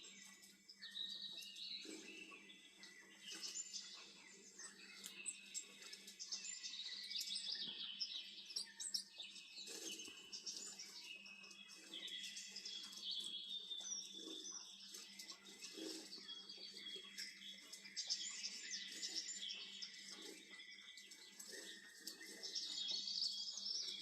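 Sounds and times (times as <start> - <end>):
songbirds chirping on television: 0.0 - 24.0.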